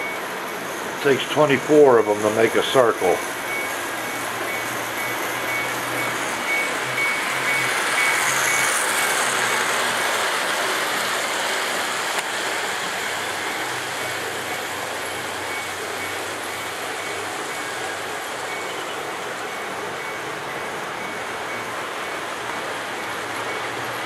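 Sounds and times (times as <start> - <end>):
model trains running on track: 0.0 - 24.0.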